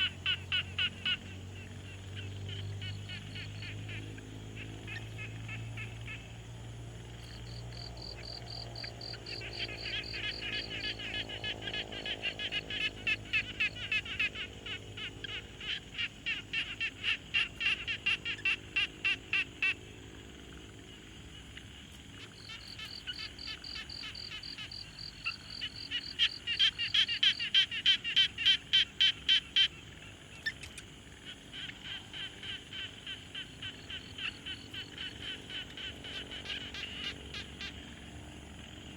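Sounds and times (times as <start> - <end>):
frogs croaking in chorus: 0.0 - 38.9.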